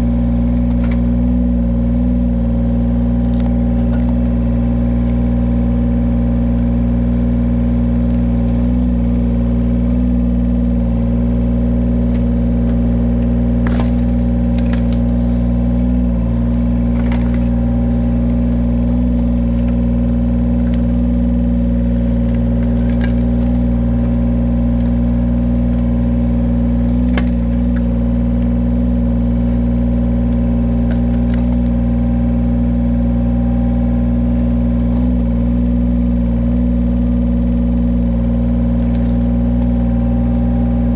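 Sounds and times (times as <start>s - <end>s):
firewood splitting cracks: 0.0s - 1.4s, 2.8s - 40.9s
diesel engine running: 0.0s - 40.9s.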